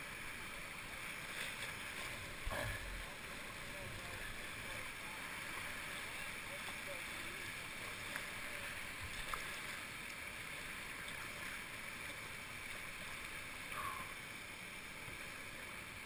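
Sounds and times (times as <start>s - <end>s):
creek water flowing over rocks: 0.0s - 16.0s.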